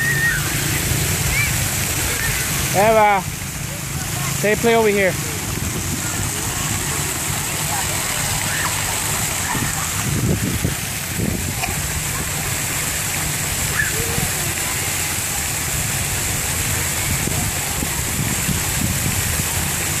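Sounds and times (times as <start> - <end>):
faint children's voices: 0.0 - 19.8
fountain jets splashing on pavement: 0.0 - 20.0.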